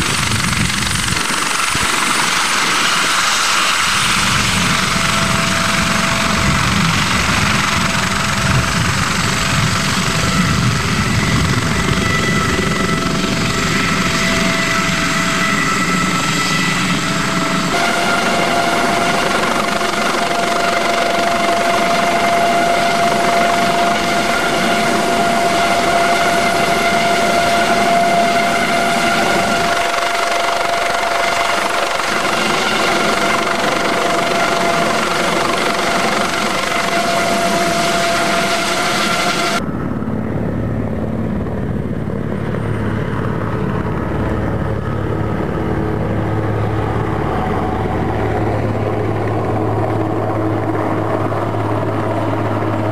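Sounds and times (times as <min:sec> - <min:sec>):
helicopter flying low past: 0:00.0 - 0:52.9
helicopter hovering with high whine: 0:00.0 - 0:52.9.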